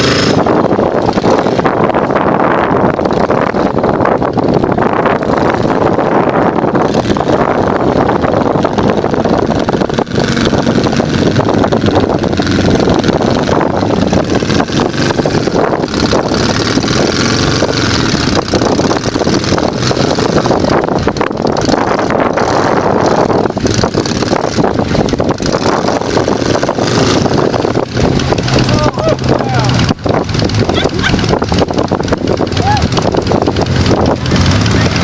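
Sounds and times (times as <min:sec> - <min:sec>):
rough crackly noise: 0:00.0 - 0:35.0
utility vehicle engine running: 0:00.0 - 0:35.0.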